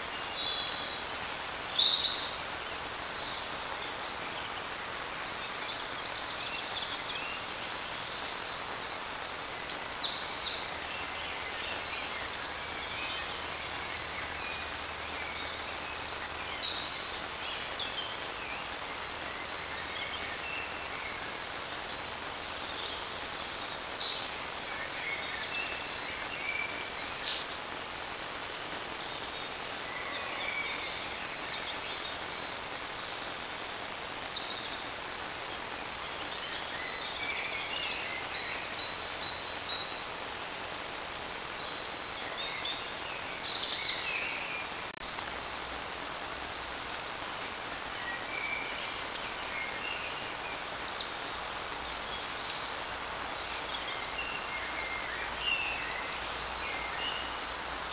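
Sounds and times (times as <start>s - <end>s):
microphone hiss: 0.0s - 57.9s.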